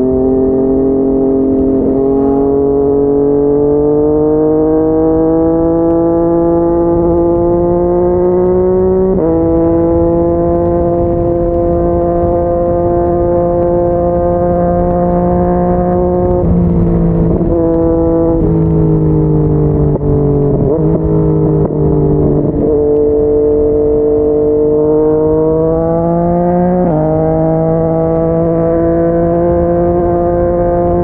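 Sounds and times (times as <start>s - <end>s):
motorcycle engine: 0.0s - 31.0s.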